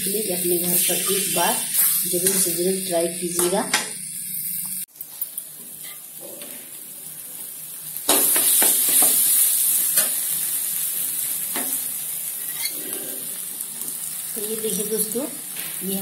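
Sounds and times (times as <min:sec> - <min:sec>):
chutney sizzling in a pan: 0:00.0 - 0:16.0.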